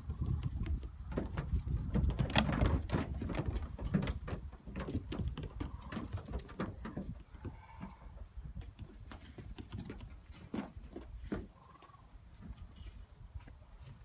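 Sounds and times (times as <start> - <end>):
goat hooves on metal: 0.1 - 14.0.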